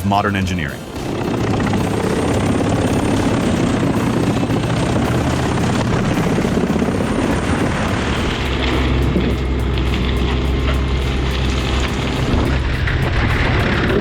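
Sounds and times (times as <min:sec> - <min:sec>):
low engine hum: 0:00.8 - 0:14.0
wood chipper running: 0:00.8 - 0:14.0.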